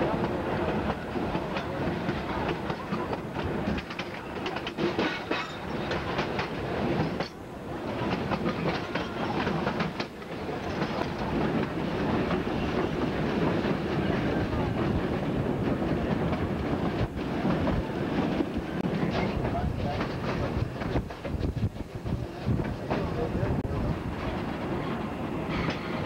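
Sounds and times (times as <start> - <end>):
train wheels rumbling and clicking: 0.0 - 26.0.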